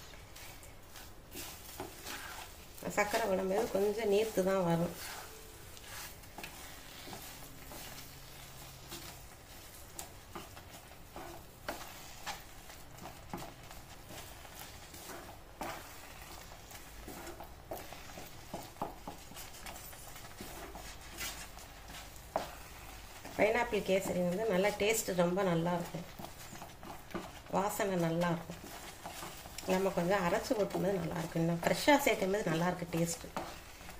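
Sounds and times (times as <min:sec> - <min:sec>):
wooden spatula scraping a pan: 0:00.0 - 0:33.9.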